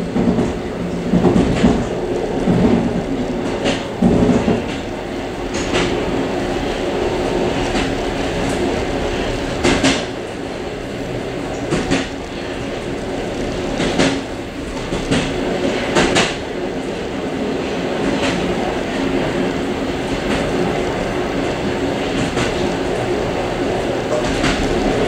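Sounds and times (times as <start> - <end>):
clickety-clack at rail joints: 0.0 - 25.0
train wheels rumbling: 0.0 - 25.0.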